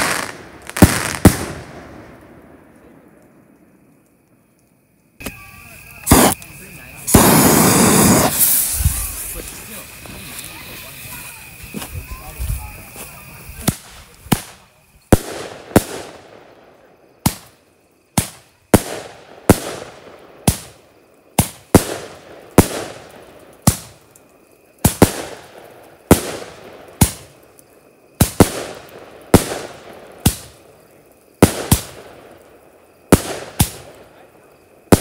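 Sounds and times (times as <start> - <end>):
fireworks bangs with echo: 0.0 - 3.1, 5.2 - 17.6, 18.2 - 24.0, 24.8 - 27.4, 28.2 - 30.8, 31.4 - 32.4, 33.1 - 35.0.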